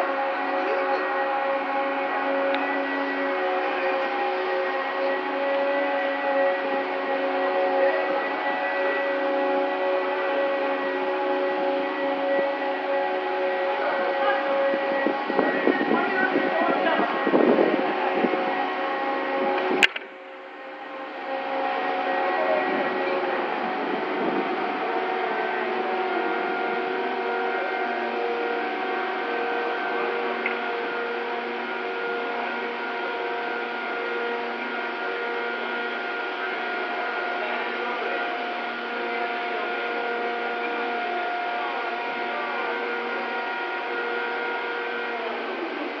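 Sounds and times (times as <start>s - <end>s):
crane mechanical hum with whining: 0.0s - 46.0s.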